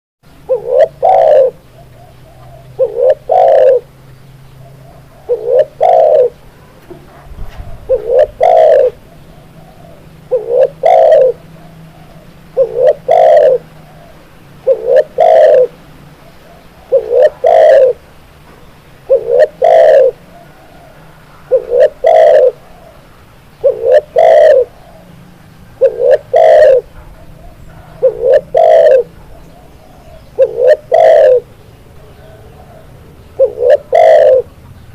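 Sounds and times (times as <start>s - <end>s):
dove cooing: 0.3s - 18.2s, 19.0s - 34.6s.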